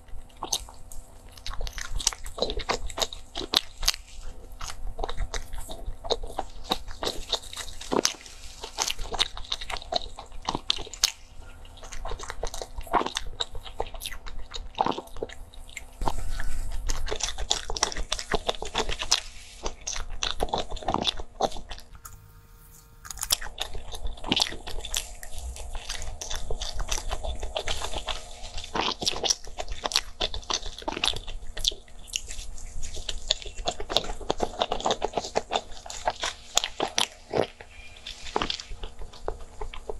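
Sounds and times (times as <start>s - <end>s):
crunchy pastry chewing: 0.0s - 39.9s.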